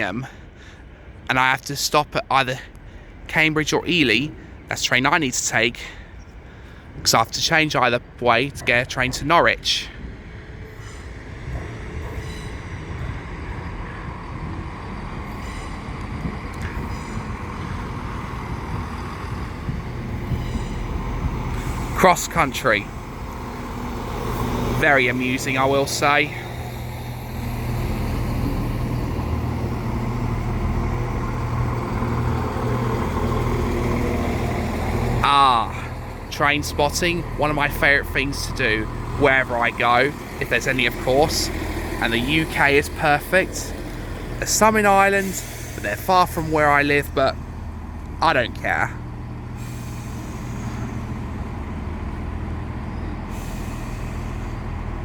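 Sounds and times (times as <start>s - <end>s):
diesel train engine humming: 0.0s - 55.0s.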